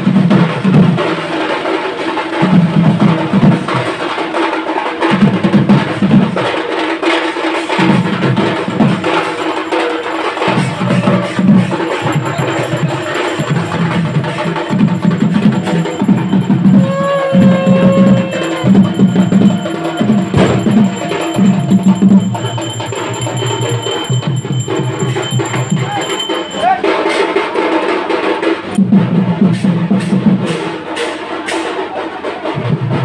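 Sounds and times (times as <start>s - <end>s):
music with drums and percussion: 0.0s - 33.0s.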